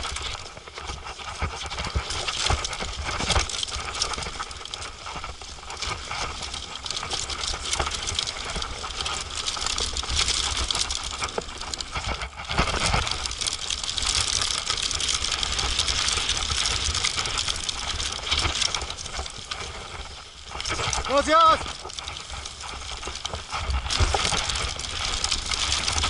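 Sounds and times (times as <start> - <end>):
mountain bike rattling downhill: 0.0 - 26.0.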